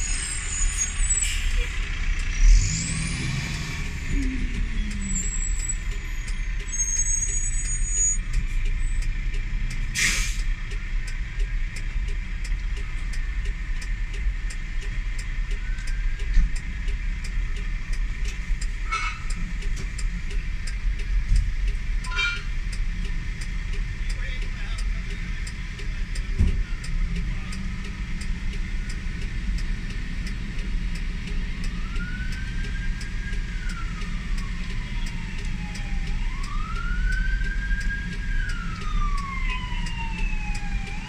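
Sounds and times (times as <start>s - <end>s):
idling traffic: 0.0s - 41.0s.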